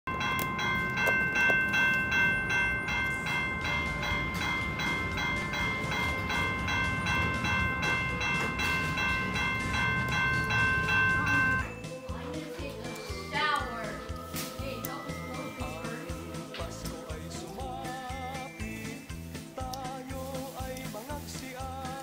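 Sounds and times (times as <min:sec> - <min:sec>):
crossing warning bell ringing: 0:00.0 - 0:19.6.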